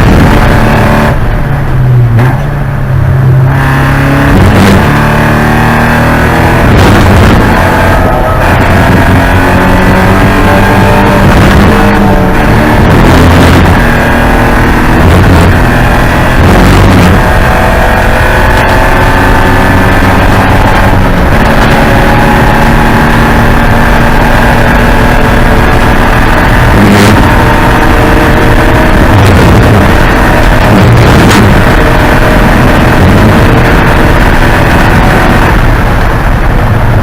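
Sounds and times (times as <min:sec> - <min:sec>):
race car engine running hard: 0:00.0 - 0:37.0.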